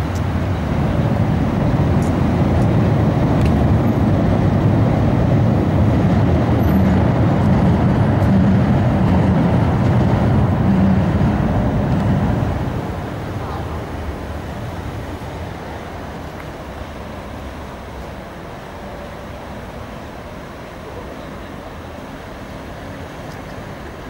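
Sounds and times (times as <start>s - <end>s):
boat engine droning: 0.0s - 24.0s
rushing water: 0.0s - 24.0s
wind: 0.0s - 24.0s.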